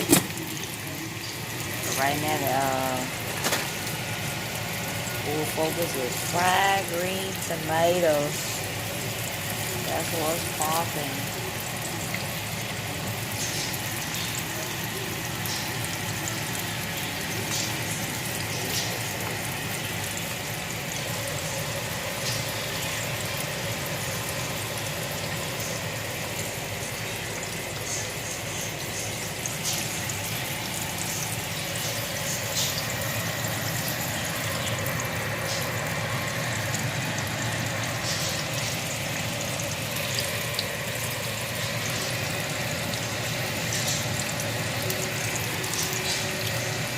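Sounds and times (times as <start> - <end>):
frying sizzle with pops: 0.0 - 46.9.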